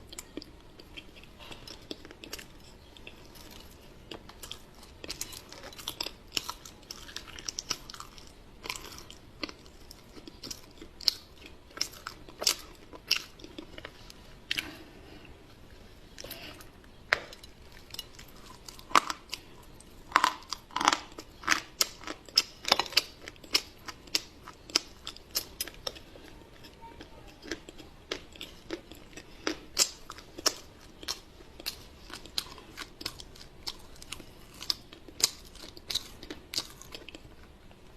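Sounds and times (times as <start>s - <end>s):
person chewing and crunching: 0.0s - 37.9s.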